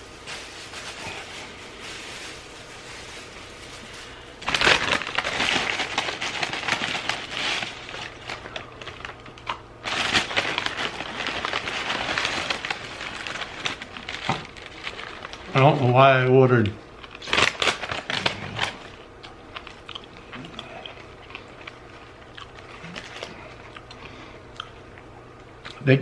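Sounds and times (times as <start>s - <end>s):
food packaging crinkling: 0.0s - 24.8s.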